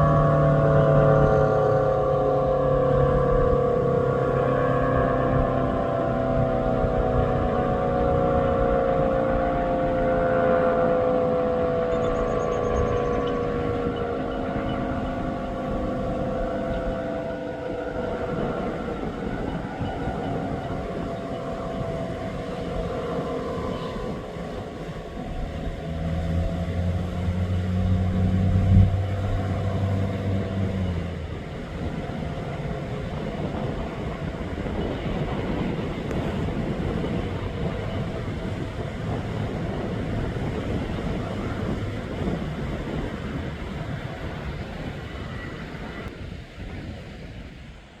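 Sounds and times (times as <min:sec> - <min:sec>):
low steady hum: 0:00.0 - 0:46.1
siren winding down: 0:00.0 - 0:46.1
traffic noise: 0:00.0 - 0:48.0
wind: 0:00.0 - 0:48.0.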